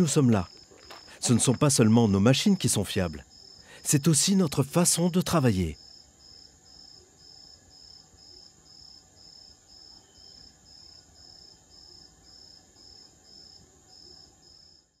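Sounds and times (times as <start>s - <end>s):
crickets chirping: 0.0s - 15.0s
high insect trill: 0.0s - 15.0s.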